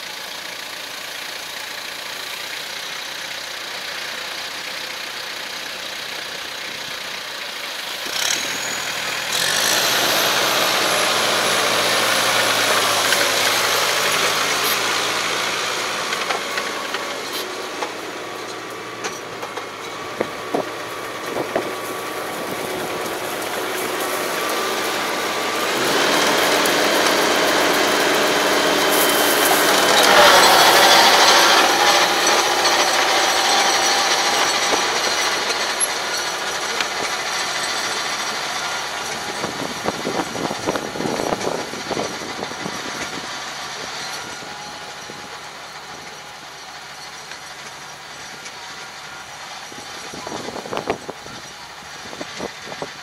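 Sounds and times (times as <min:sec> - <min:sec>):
rotary tiller churning soil: 0:00.0 - 0:53.0
tractor diesel engine running: 0:00.0 - 0:53.0.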